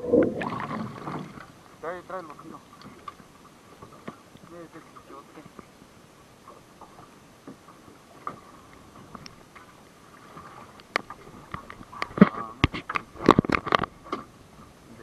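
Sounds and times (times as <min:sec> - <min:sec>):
water slapping against boat: 0:00.4 - 0:14.8.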